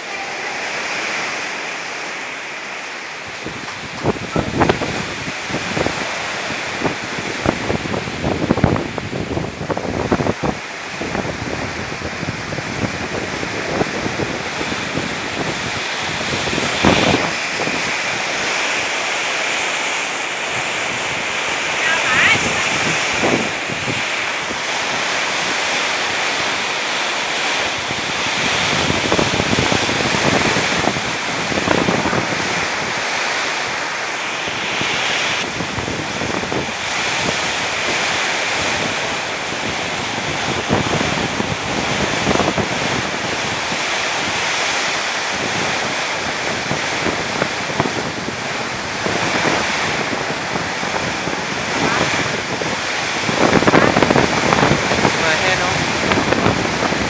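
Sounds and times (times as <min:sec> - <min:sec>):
storm wind gusting: 0:00.0 - 0:57.0.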